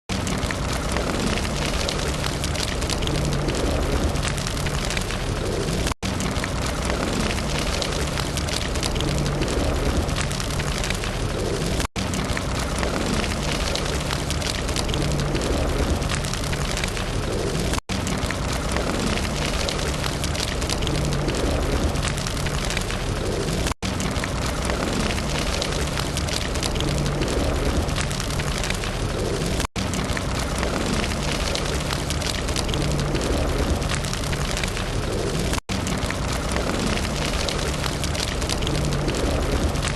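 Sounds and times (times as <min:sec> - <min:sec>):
campfire hissing and crackling: 0:00.2 - 0:39.9.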